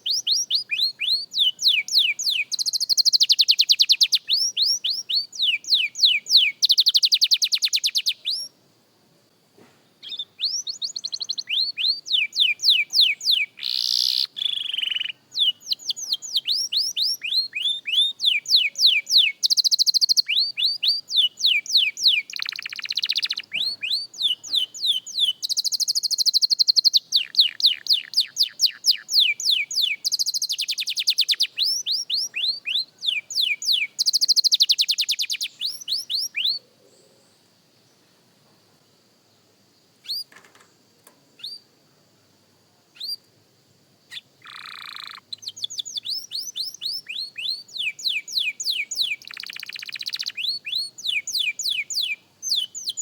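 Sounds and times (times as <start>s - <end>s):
canary singing: 0.0s - 8.5s, 10.0s - 36.6s, 40.0s - 40.4s, 41.4s - 41.7s, 43.0s - 43.2s, 44.1s - 53.0s.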